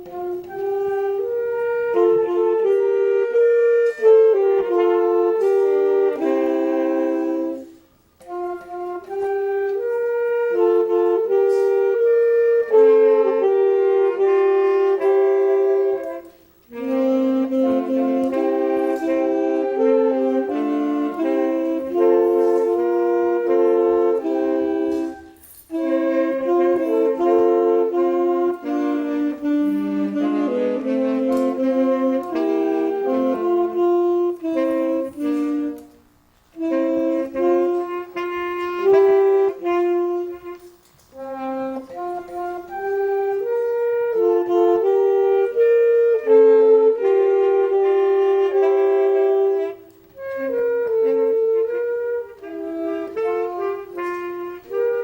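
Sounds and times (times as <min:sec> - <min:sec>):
wind instrument melody: 0:00.0 - 0:55.0.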